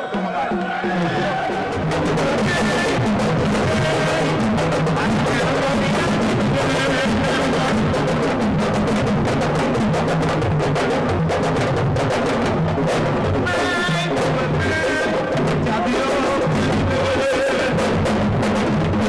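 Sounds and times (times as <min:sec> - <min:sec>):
fast dense drumming: 0:00.0 - 0:19.0.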